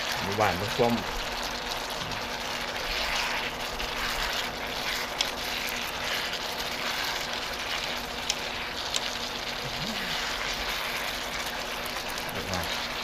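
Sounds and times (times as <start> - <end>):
noodles sizzling in a wok: 0.0 - 13.0.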